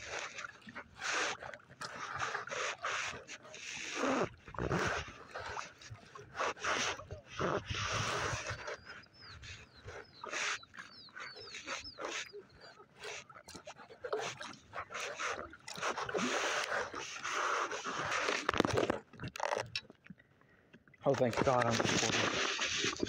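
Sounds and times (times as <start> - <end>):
water splashing around kayak: 0.0 - 23.0.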